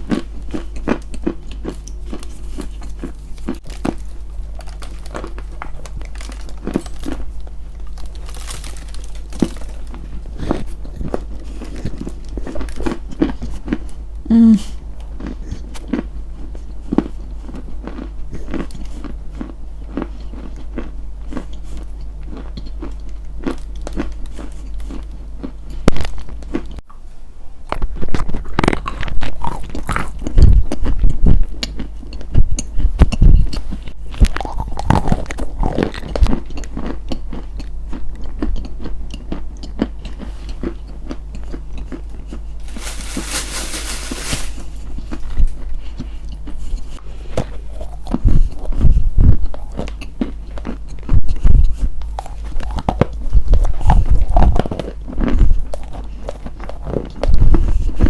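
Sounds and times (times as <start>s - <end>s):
crunchy chewing: 0.0s - 14.0s, 14.6s - 26.8s, 27.7s - 58.0s
steady low hum: 0.0s - 58.0s.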